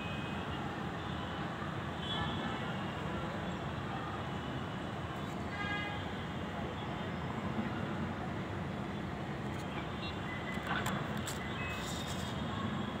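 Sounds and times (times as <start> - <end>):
distant city traffic hum: 0.0 - 13.0.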